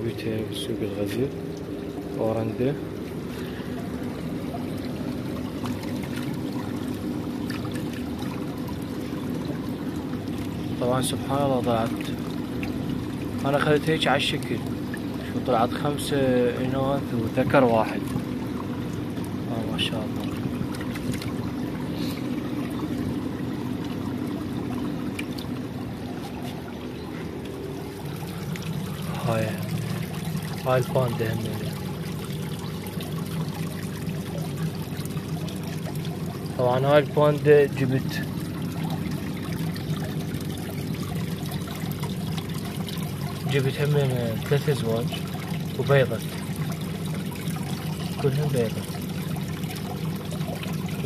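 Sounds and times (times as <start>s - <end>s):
low steady hum: 0.0s - 51.0s
water pouring into a tank: 0.0s - 51.0s.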